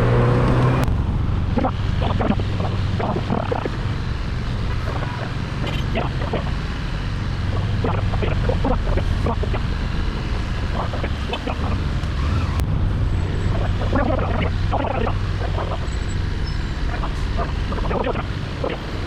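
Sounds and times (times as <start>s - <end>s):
small motorbike engine running: 0.0s - 19.0s.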